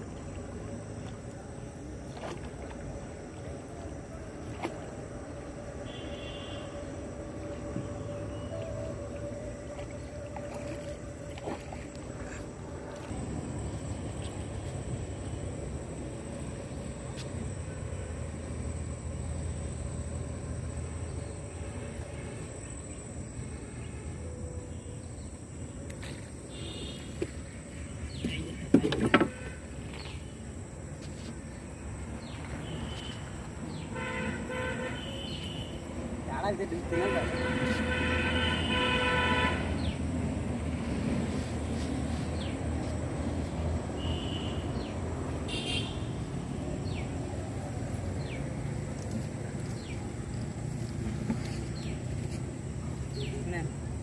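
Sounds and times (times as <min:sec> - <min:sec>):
high insect drone: 0:00.0 - 0:28.4, 0:29.2 - 0:54.0
low boat hum: 0:00.0 - 0:54.0.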